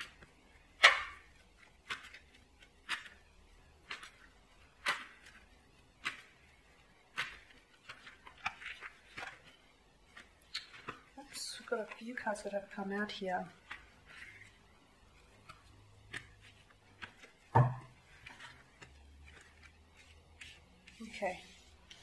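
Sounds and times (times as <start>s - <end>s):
cards slapping: 0.0s - 11.2s, 13.6s - 21.1s
cards being shuffled: 0.0s - 12.6s, 13.5s - 22.0s.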